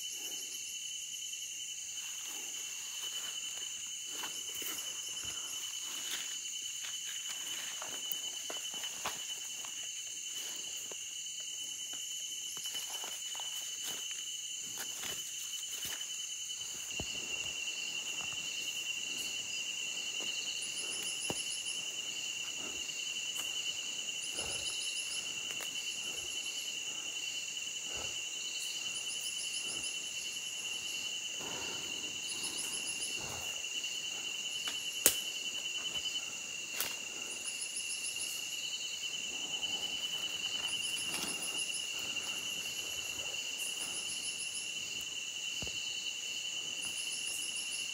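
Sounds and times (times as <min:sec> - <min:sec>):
high-pitched insect drone: 0:00.0 - 0:47.9
very high insect trills: 0:00.0 - 0:47.9.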